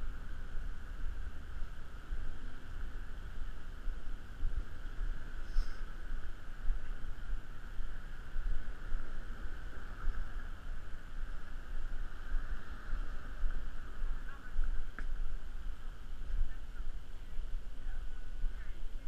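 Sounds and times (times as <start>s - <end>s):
steady hiss: 0.0s - 19.0s
wind rumble on microphone: 0.0s - 19.0s.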